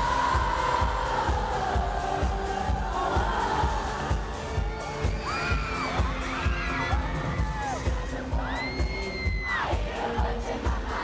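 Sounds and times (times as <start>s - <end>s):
crowd screaming and whooping: 0.0s - 11.0s
live pop concert music: 0.0s - 11.0s.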